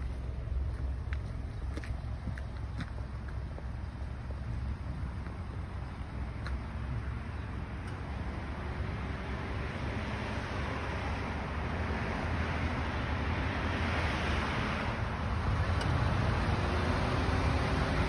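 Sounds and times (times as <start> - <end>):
vehicle road noise: 0.0 - 18.0.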